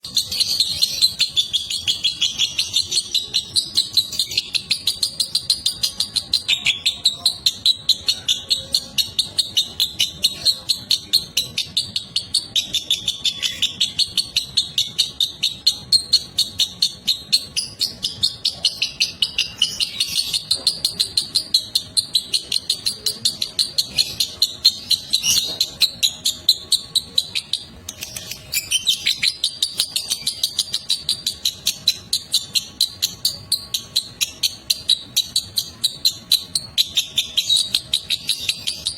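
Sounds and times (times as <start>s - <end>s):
lovebird chattering song: 0.0s - 38.9s.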